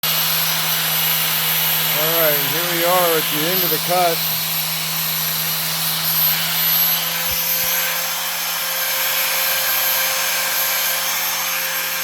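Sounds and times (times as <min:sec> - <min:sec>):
power tool motor whining: 0:00.0 - 0:12.0.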